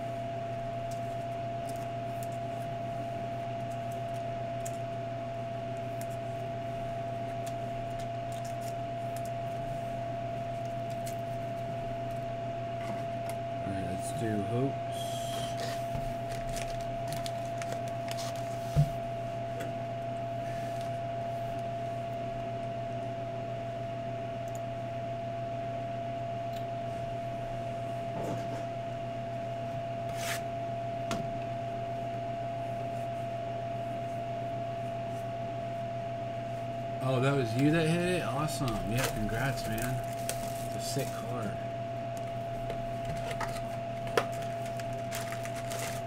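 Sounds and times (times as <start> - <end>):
electrical hum with high tone: 0.0 - 46.0.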